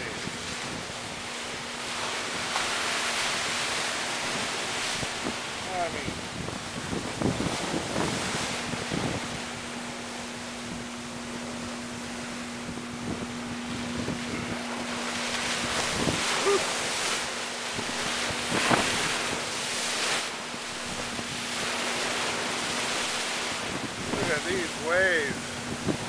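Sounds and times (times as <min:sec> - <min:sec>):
wind buffeting microphone: 0:00.0 - 0:20.2, 0:20.8 - 0:26.0
waves crashing on shore: 0:00.0 - 0:26.0.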